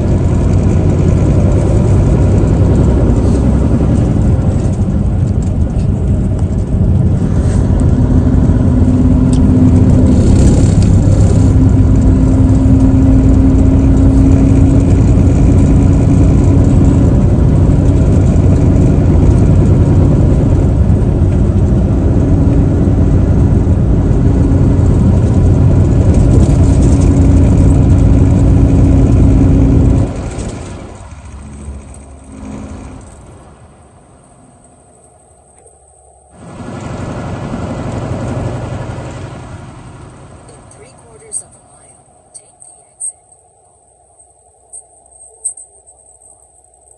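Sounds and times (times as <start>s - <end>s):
droning hum: 0.0s - 46.9s
road noise: 0.0s - 46.9s
truck engine running: 0.0s - 46.9s.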